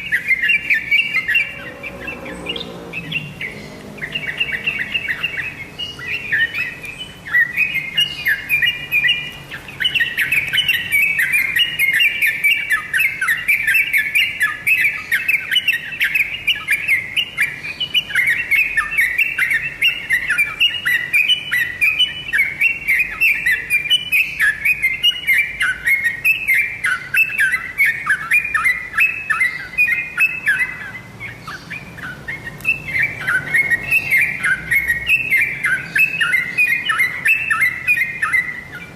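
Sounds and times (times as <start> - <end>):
bird singing chirpy notes: 0.0 - 38.9.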